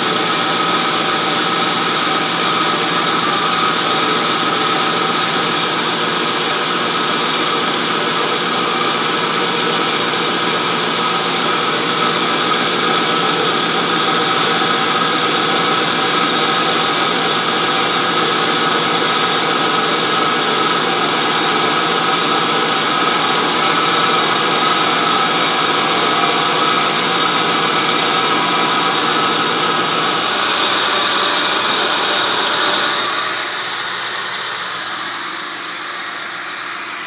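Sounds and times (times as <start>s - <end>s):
high drive belt whine: 0.0s - 37.0s.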